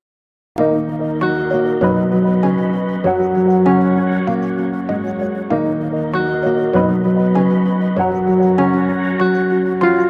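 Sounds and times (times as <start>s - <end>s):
background music with held chords: 0.6s - 10.0s.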